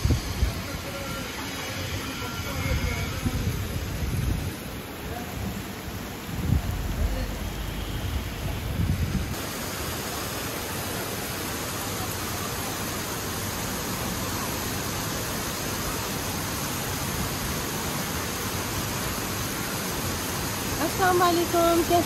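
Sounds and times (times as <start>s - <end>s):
heavy rain on street and cars: 0.0s - 22.0s.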